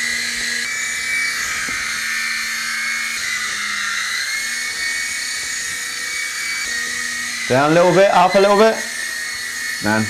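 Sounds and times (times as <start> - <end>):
toy helicopter rotor whine: 0.0 - 10.0.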